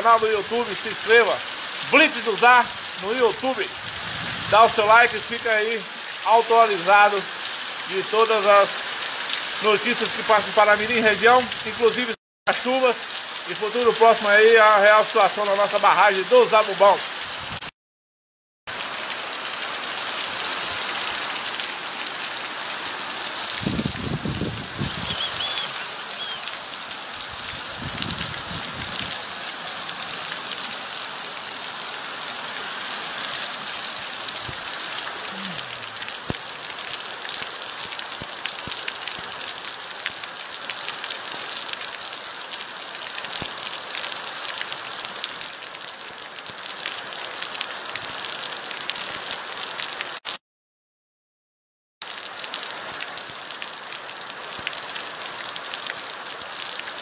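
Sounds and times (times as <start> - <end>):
heavy rain into standing water: 0.0 - 17.6, 18.7 - 50.4, 52.0 - 57.0.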